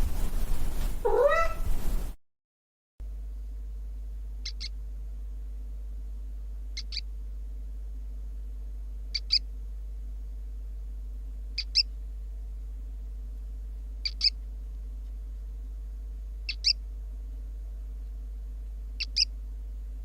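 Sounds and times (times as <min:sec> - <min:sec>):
steady low hum: 0:00.0 - 0:02.2, 0:03.0 - 0:20.0.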